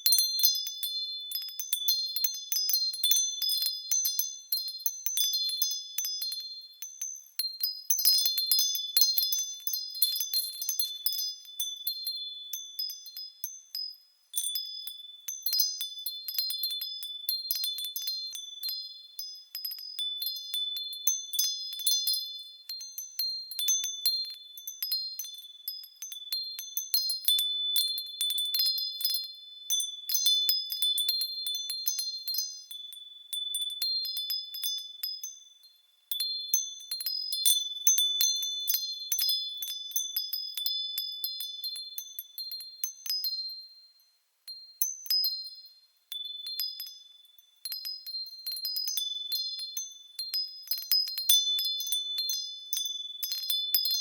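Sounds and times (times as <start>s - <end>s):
wind chime tinkling: 0.0s - 54.0s.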